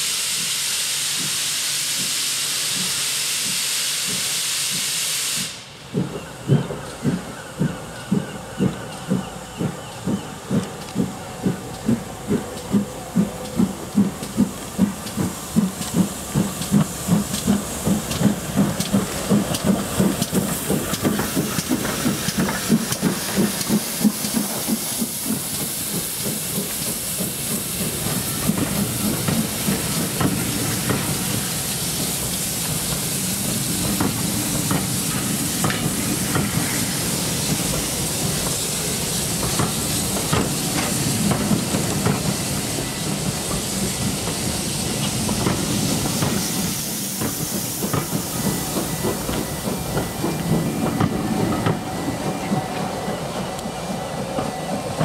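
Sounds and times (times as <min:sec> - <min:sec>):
steam locomotive chuffing: 0:00.0 - 0:55.0
train coaches rumbling past: 0:00.0 - 0:55.0
wheels clicking over rail joints: 0:05.9 - 0:55.0.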